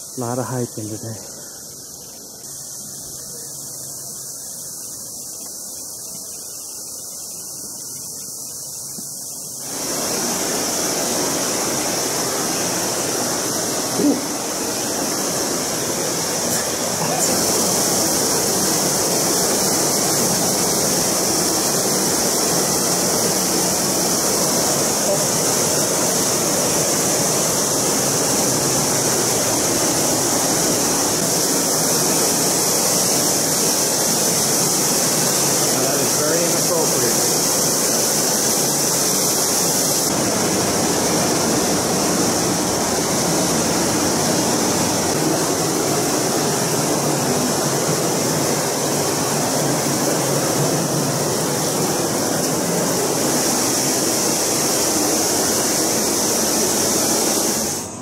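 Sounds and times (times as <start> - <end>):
waterfall rushing: 9.5 - 58.0.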